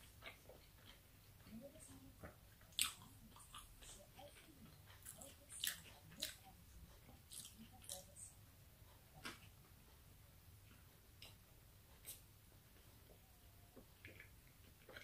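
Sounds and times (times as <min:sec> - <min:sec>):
mouth chewing food: 0:00.0 - 0:15.0.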